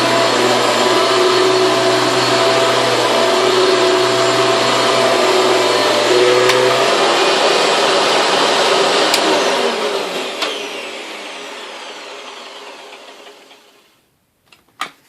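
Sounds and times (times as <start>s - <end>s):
vacuum cleaner motor winding down: 0.0s - 14.0s.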